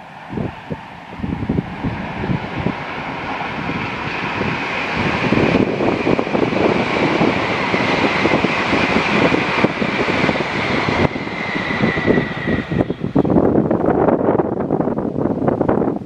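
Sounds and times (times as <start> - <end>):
high-speed train passing: 0.0 - 16.0
wind buffeting microphone: 0.0 - 16.0.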